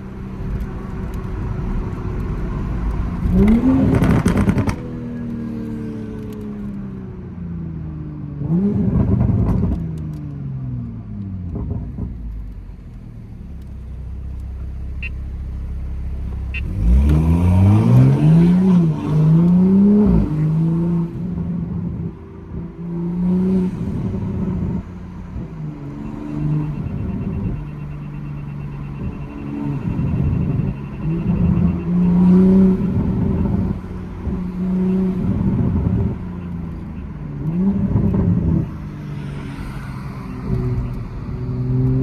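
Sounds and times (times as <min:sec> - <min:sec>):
turbocharged car engine revving: 0:00.0 - 0:06.6, 0:14.0 - 0:42.0.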